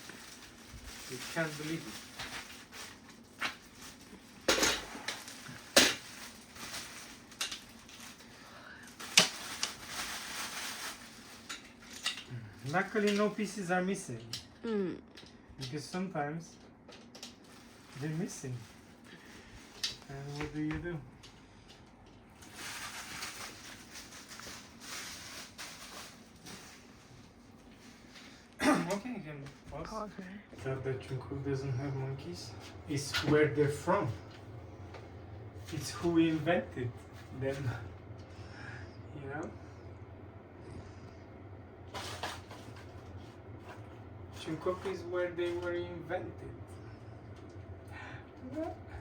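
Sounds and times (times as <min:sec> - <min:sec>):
soft rustling and handling noise: 0:00.0 - 0:14.3, 0:16.4 - 0:38.3, 0:41.8 - 0:48.9.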